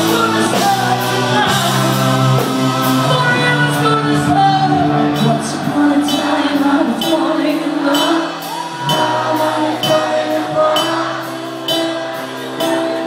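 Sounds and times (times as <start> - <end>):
drum and cymbal hits: 0.0 - 13.0
rock band playing power ballad: 0.0 - 13.0.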